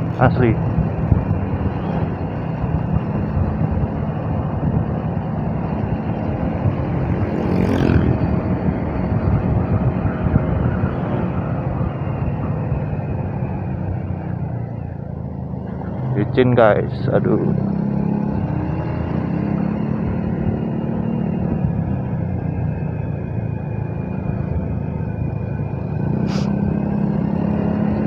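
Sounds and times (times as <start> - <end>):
wind on microphone: 0.0 - 15.1, 19.1 - 28.0
motorcycle engine running: 0.0 - 28.0.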